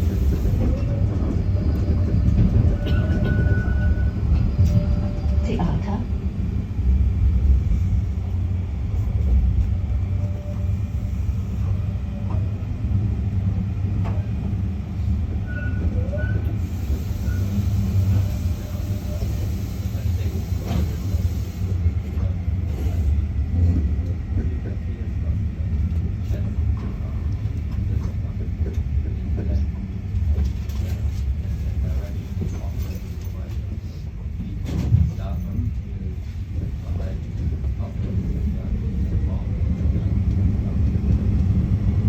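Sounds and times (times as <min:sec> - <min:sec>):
tram rumbling on rails: 0:00.0 - 0:42.0.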